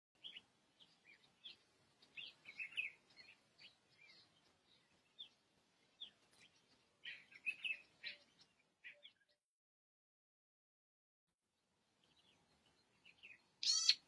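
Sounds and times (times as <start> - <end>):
small birds chirping: 0.2 - 9.4, 11.6 - 14.0.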